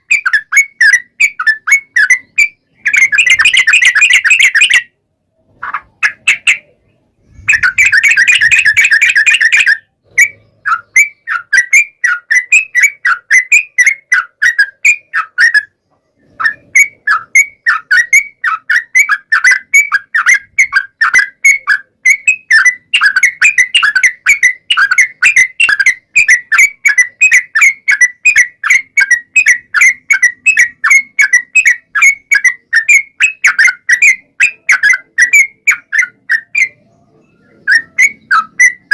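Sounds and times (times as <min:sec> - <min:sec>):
bird singing bright chirps: 0:00.0 - 0:38.9.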